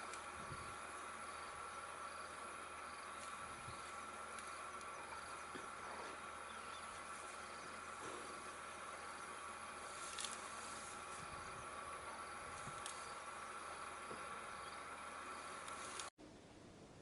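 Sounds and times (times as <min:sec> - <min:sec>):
insect chorus drone: 0:00.0 - 0:16.1.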